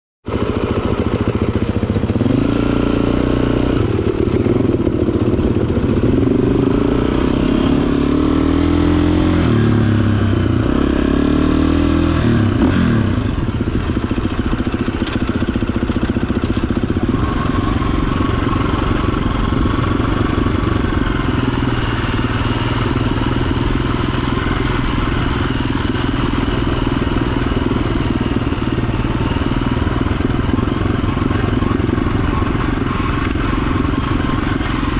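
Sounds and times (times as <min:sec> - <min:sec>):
motorcycle engine shifting gears: 0:00.3 - 0:34.9.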